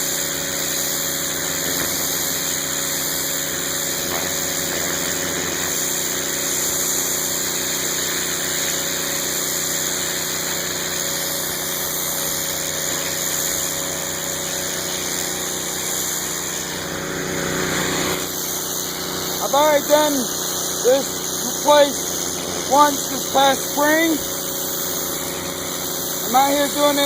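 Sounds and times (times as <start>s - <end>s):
high-pressure water spray hiss: 0.0s - 27.0s
pressure washer engine running: 0.0s - 27.0s.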